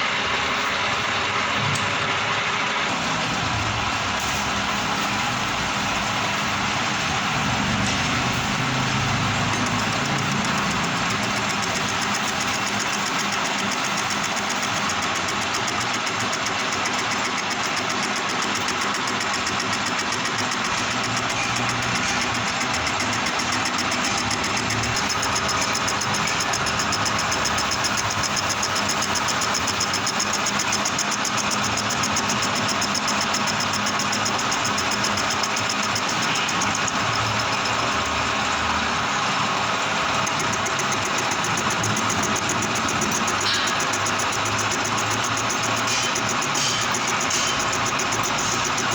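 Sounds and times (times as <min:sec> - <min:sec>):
metal lathe running: 0:00.0 - 0:48.9.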